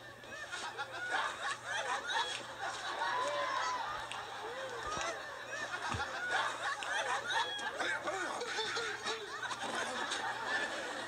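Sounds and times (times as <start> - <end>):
studio audience laughing: 0.0 - 11.0.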